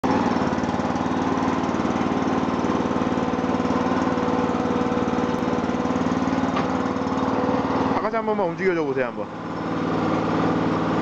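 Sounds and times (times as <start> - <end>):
excavator engine idling: 0.0 - 11.0.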